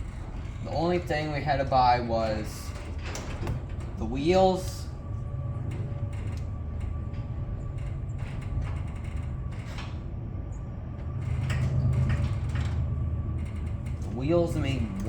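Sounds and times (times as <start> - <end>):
clicks and creaks: 0.0 - 15.0
machinery humming: 0.0 - 15.0.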